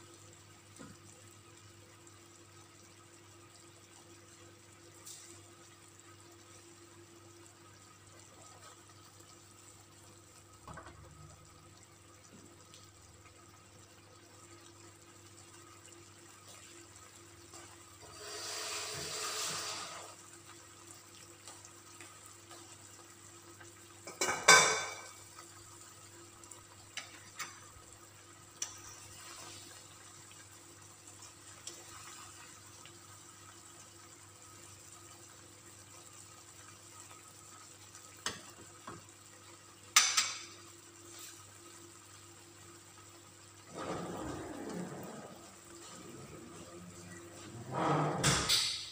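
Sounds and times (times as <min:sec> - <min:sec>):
sauce simmering and bubbling: 0:00.0 - 0:48.8.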